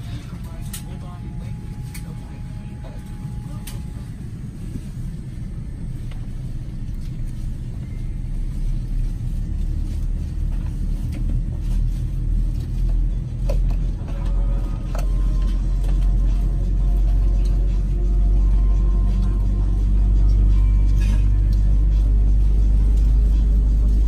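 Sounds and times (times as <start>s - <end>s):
low rumble inside aircraft cabin: 0.0s - 24.0s.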